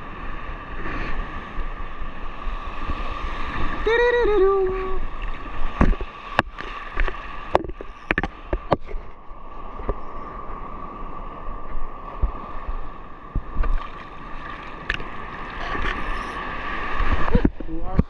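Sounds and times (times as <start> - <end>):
surf washing and sloshing: 0.0 - 18.0.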